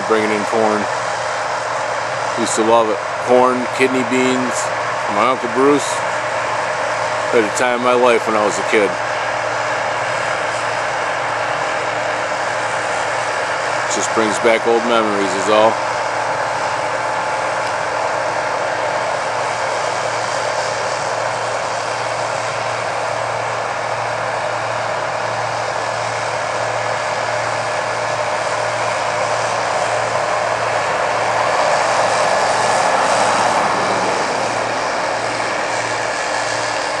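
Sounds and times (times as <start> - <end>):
machine engine drone: 0.0 - 37.0.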